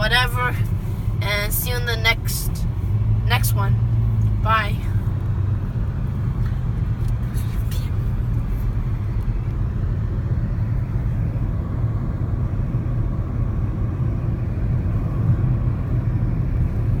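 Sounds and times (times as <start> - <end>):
car engine rumble: 0.0 - 17.0
tyre road noise: 0.0 - 17.0.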